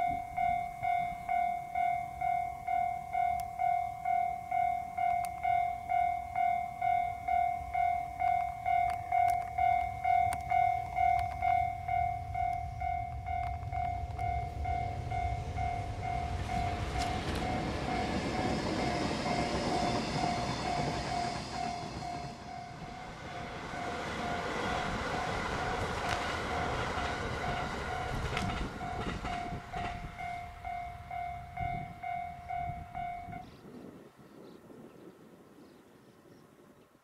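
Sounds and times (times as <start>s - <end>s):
level crossing alarm ringing: 0.0s - 33.5s
electric trains passing: 0.0s - 35.8s.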